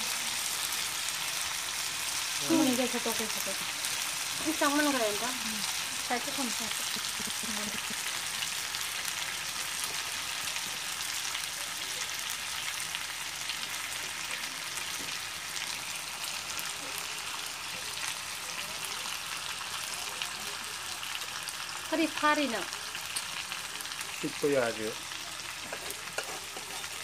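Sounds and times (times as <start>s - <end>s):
curry sizzling in a pot: 0.0s - 27.0s
wood fire crackling: 0.0s - 27.0s.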